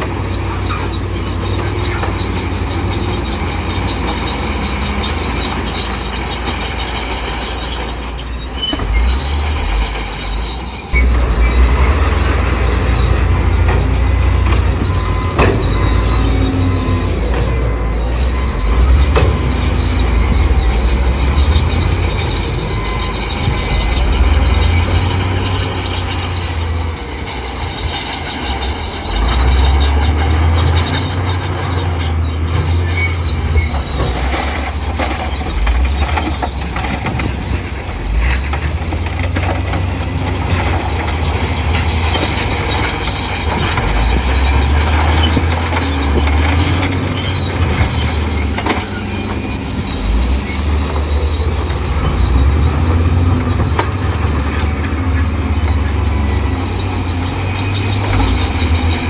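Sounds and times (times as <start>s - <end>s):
bulldozer diesel engine rumble: 0.0s - 59.0s
steel tracks squealing: 0.0s - 59.0s.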